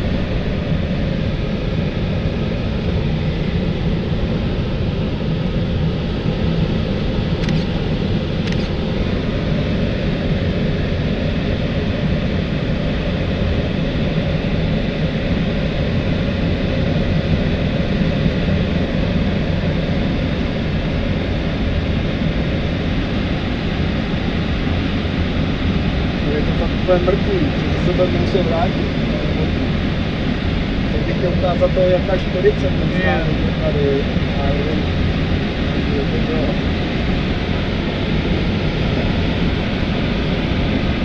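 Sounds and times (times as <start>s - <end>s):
airflow rushing around glider cockpit: 0.0s - 41.0s.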